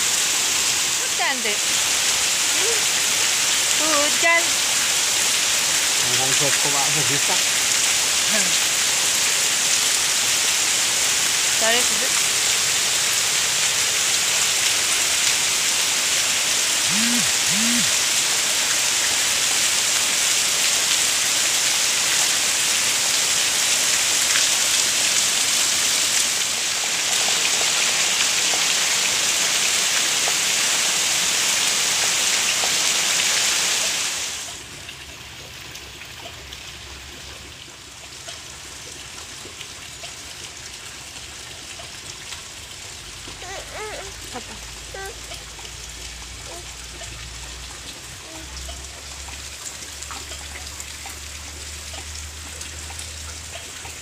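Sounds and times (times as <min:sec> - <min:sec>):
heavy rain on ground and roof: 0:00.0 - 0:54.0.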